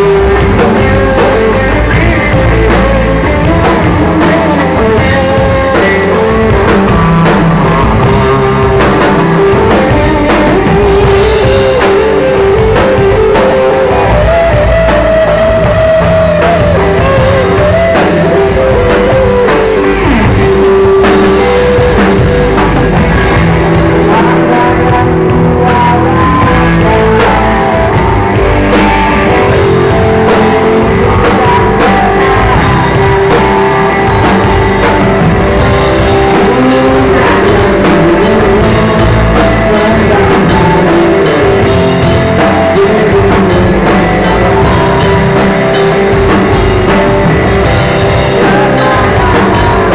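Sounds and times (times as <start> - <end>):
bass guitar: 0.0 - 49.9
drum kit: 0.0 - 49.9
electric guitar melody: 0.0 - 49.9.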